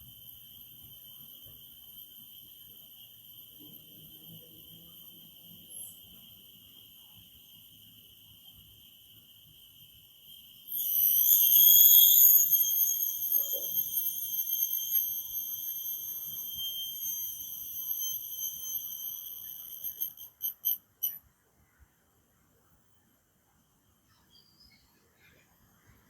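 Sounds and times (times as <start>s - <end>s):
cricket trilling: 0.0s - 21.3s.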